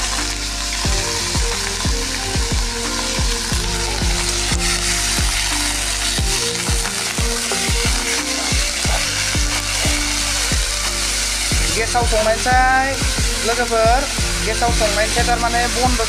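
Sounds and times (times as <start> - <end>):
background music with kick beat: 0.0 - 16.0
pork sizzling in a pan: 0.0 - 16.0.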